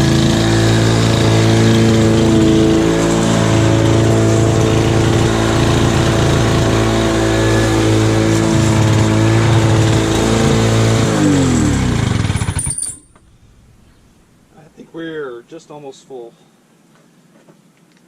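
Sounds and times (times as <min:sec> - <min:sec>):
mower engine running and spinning down: 0:00.0 - 0:14.8.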